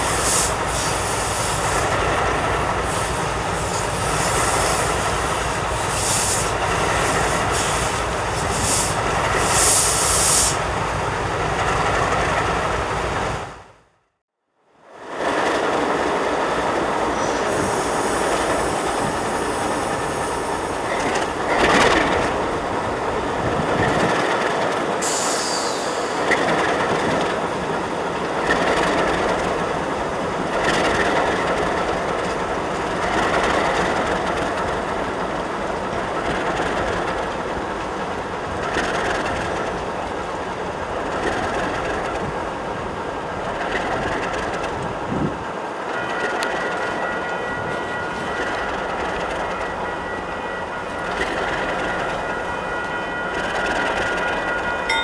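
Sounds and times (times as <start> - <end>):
freight train clattering on rails: 0.0 - 13.7, 15.0 - 55.0.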